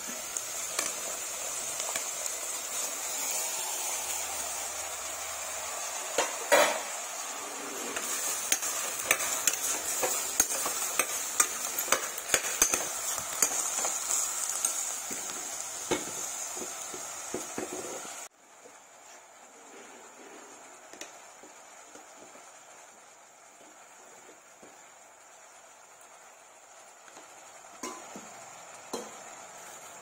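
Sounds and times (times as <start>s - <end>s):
vegetables sizzling in pot: 0.0s - 30.0s.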